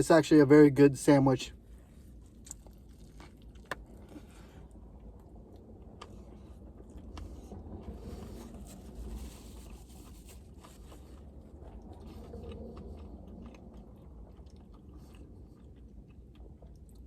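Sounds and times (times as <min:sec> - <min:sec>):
steady low rumble: 0:00.0 - 0:17.0
soft eating clicks and rustles: 0:01.6 - 0:17.0.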